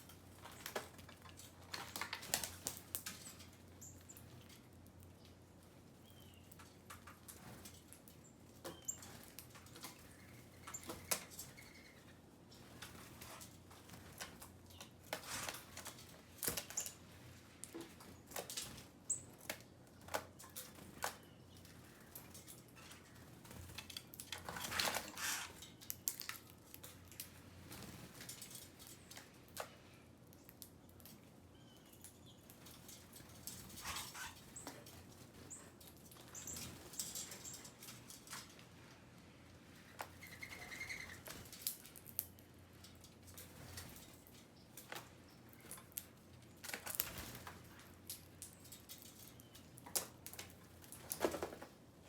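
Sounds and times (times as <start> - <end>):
birds pecking and pattering: 0.0 - 52.0.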